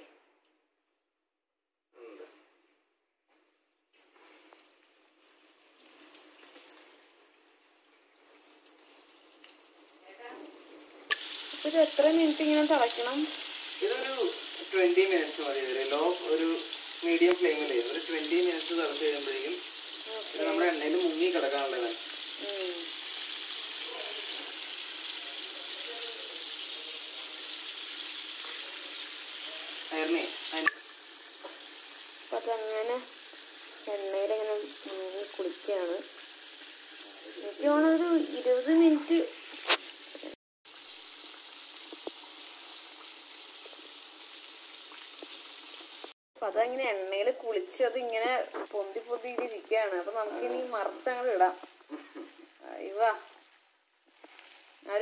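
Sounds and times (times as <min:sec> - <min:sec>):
chicken sizzling in oil: 0:04.2 - 0:46.2, 0:48.9 - 0:55.0.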